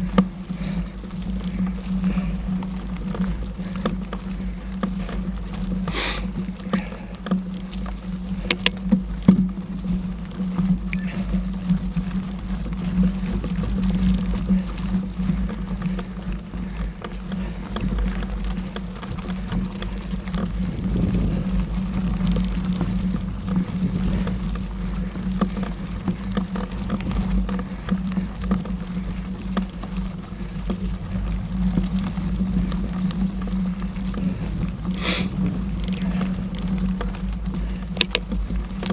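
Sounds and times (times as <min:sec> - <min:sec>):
bike rattles and clicks: 0:00.0 - 0:38.9
low rumble and hum: 0:00.0 - 0:38.9.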